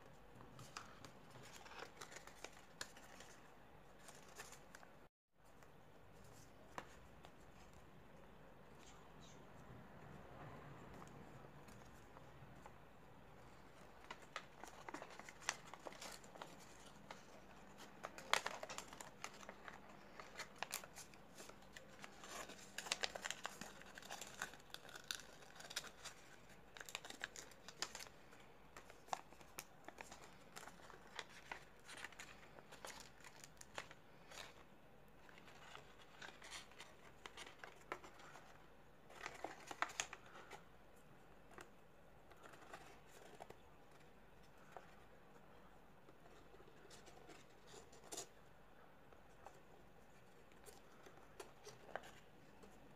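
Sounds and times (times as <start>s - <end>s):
paper crinkling and rustling: 0.4s - 7.8s, 10.8s - 52.9s.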